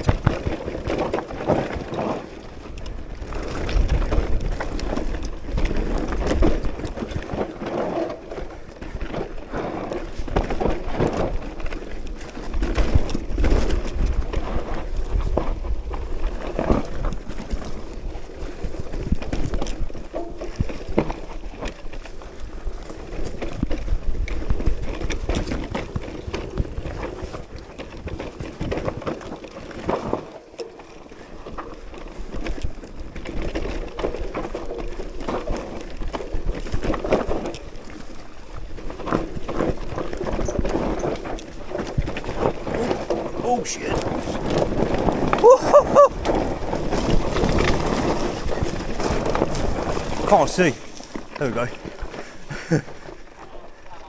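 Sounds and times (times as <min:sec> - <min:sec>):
bike clattering over bumps: 0:00.0 - 0:43.4, 0:44.0 - 0:54.0.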